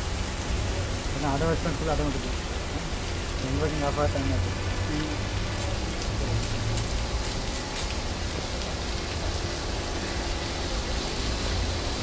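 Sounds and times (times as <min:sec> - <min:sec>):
water jets spraying: 0:00.0 - 0:12.0.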